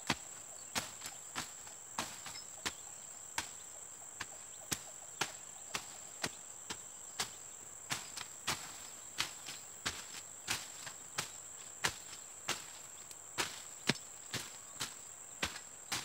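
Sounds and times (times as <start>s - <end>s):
blade chopping undergrowth: 0.0s - 16.0s.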